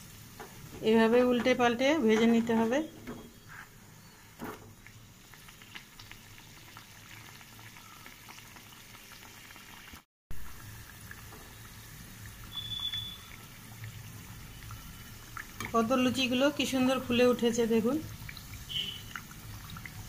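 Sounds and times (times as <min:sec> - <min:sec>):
oil sizzling and bubbling: 0:00.0 - 0:20.0.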